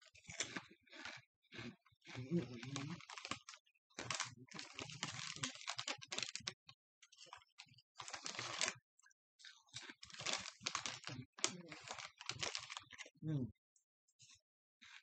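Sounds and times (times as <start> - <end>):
chip bag crinkling: 0.0 - 8.8, 9.4 - 13.1.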